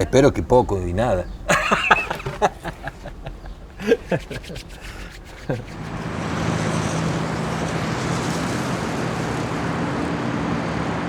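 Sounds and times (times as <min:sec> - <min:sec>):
low engine hum: 0:00.0 - 0:11.0
vehicle road noise: 0:00.0 - 0:11.0.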